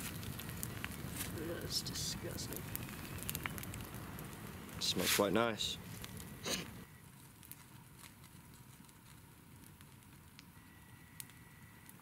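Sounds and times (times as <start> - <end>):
campfire crackling: 0.0 - 12.0
sharp pops of fire: 0.0 - 12.0.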